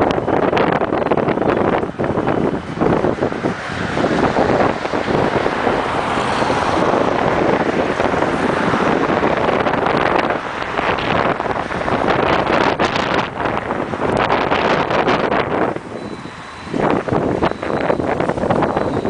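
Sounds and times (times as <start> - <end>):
freight train rolling on rails: 0.0 - 19.0
wind buffeting microphone: 0.0 - 19.0.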